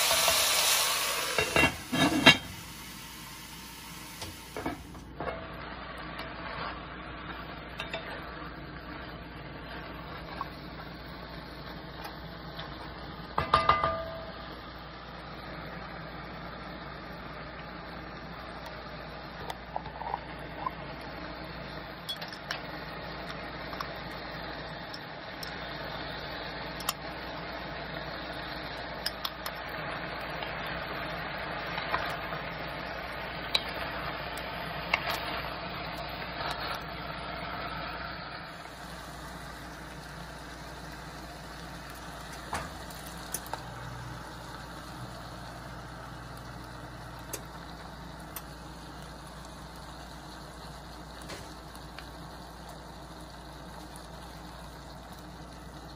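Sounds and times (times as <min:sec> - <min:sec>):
food sizzling in oil: 0:00.0 - 0:55.9.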